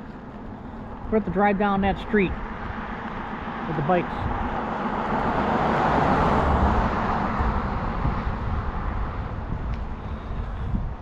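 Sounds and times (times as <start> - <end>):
road vehicle passing: 0.0 - 11.0
steady low rumble: 0.0 - 11.0.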